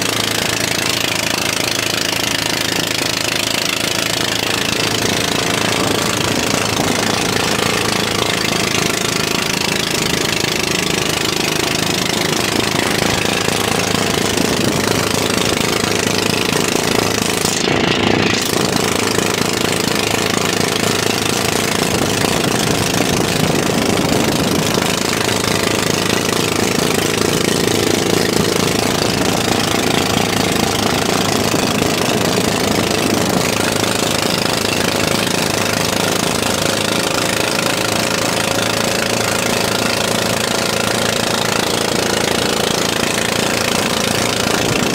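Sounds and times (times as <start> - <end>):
boat engine knocking: 0.0 - 44.9
rushing wind: 0.0 - 44.9
water noise: 0.0 - 44.9.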